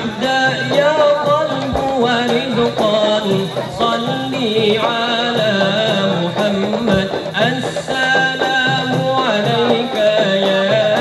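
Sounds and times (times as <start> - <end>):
sustained melodic singing: 0.0 - 11.0.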